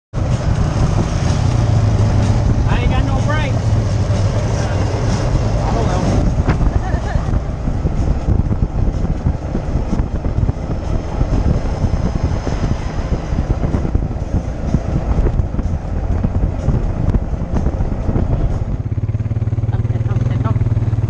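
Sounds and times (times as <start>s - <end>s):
vehicle rumble and rattle: 0.1s - 21.0s
atv engine humming: 0.2s - 21.0s
wind buffeting microphone: 0.2s - 21.0s.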